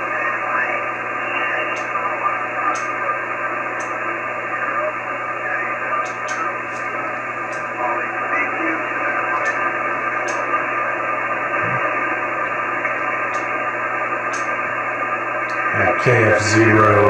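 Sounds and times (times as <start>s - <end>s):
faint steady tones: 0.0s - 17.0s
radio static: 0.0s - 17.0s.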